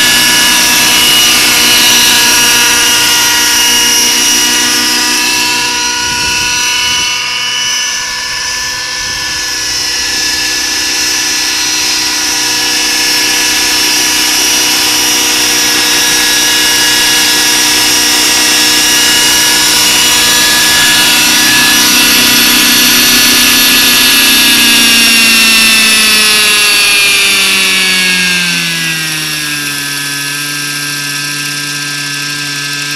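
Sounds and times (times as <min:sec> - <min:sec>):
model helicopter rotor whine: 0:00.0 - 0:32.9.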